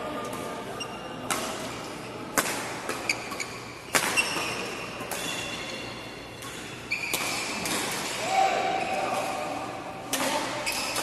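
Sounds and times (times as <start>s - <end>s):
court shoes squeaking: 0.2s - 11.0s
rackets hitting shuttlecock: 1.2s - 11.0s.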